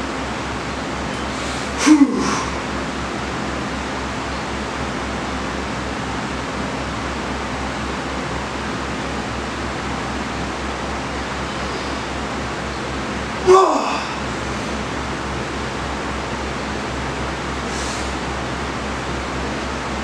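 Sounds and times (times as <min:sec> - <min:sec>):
fan-like rushing noise: 0:00.0 - 0:20.0.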